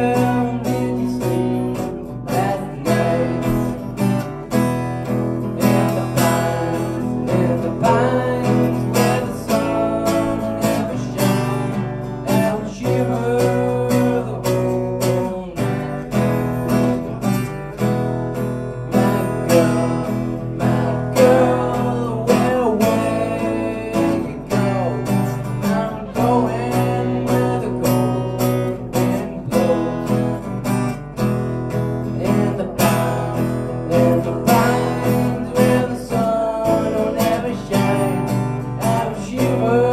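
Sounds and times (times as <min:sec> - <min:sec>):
man singing into a microphone: 0:00.0 - 0:04.5, 0:05.4 - 0:17.0, 0:18.7 - 0:30.6, 0:32.0 - 0:39.9
acoustic guitar strumming: 0:00.0 - 0:39.9.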